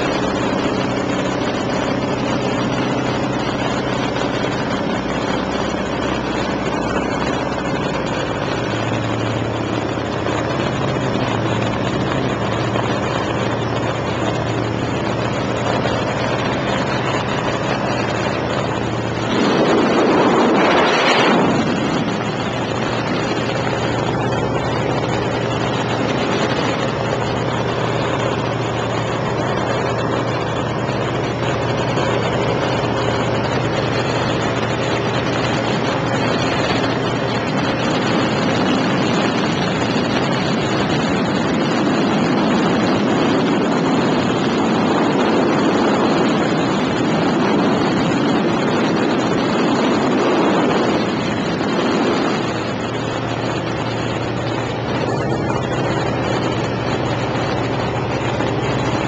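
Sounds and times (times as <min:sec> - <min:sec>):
propeller plane engine droning: 0:00.0 - 0:59.0
wind rush: 0:00.0 - 0:59.0.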